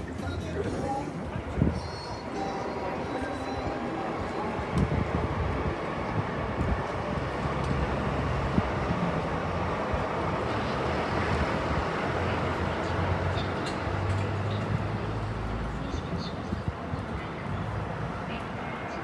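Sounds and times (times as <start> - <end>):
distant crowd: 0.0 - 19.0
street noise: 0.0 - 19.0.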